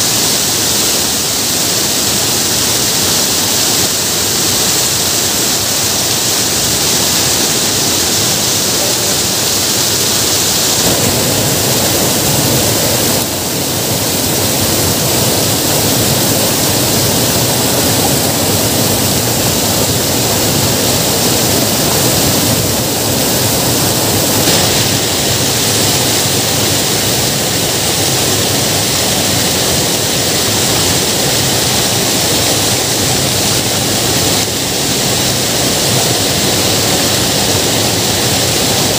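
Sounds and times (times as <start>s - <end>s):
water rushing over weir: 0.0s - 38.9s.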